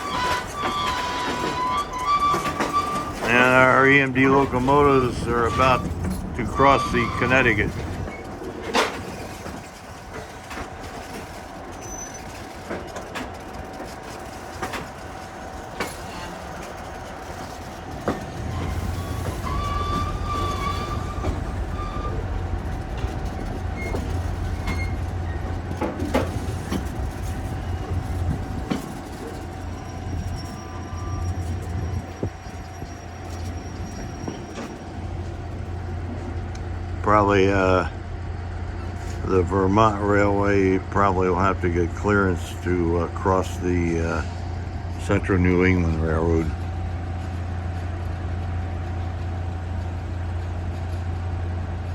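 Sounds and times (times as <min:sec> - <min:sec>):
train ride rumble: 0:00.0 - 0:51.9.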